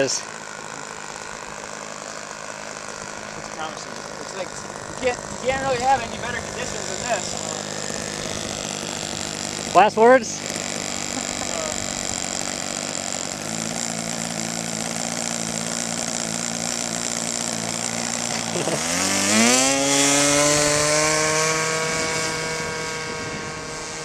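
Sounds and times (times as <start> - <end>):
model airplane engine buzzing: 0.0 - 24.0.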